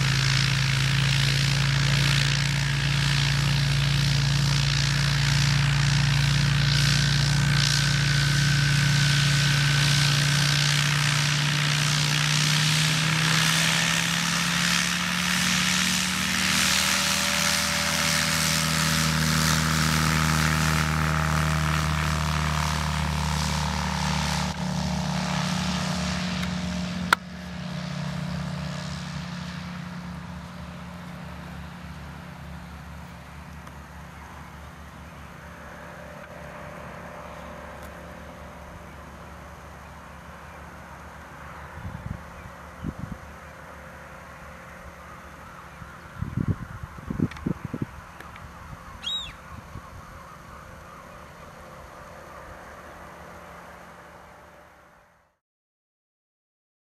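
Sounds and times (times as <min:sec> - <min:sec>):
propeller aircraft engine: 0:00.0 - 0:55.4.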